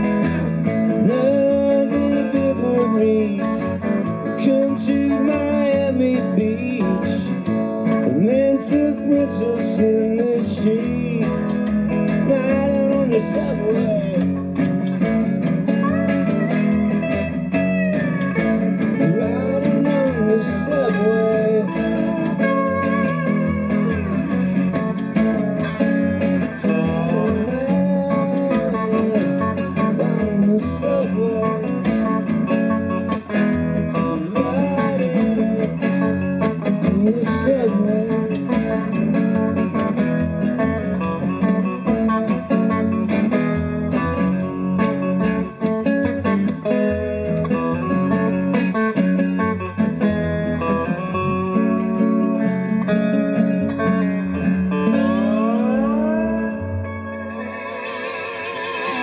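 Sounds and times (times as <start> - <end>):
lead guitar bending notes: 0.0 - 59.0
strummed guitar chords: 0.0 - 59.0.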